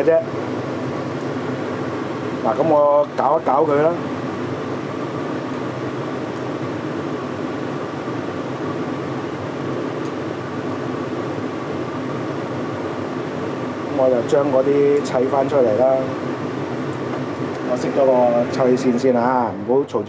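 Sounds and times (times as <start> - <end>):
range hood fan rushing: 0.0 - 20.0.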